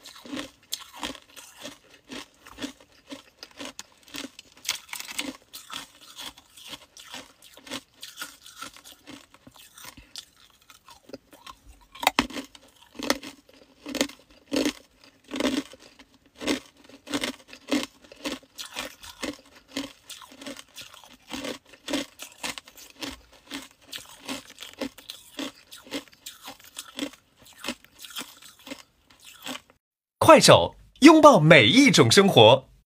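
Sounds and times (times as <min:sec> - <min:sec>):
ice crunching between teeth: 0:00.0 - 0:29.8.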